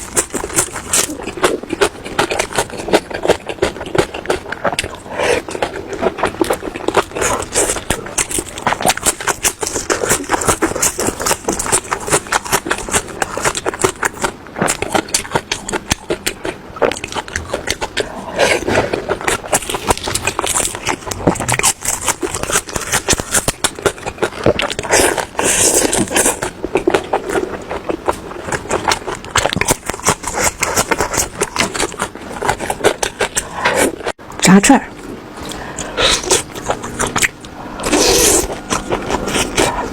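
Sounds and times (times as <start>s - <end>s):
wet chewing and smacking: 0.0s - 34.3s, 34.9s - 39.9s.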